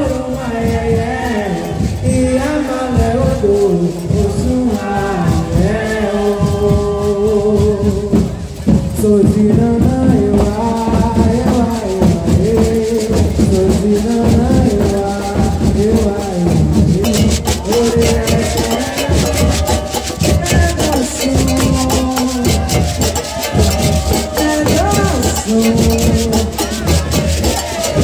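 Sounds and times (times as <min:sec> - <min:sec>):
person singing: 0:00.0 - 0:28.0
steady percussion: 0:00.0 - 0:28.0.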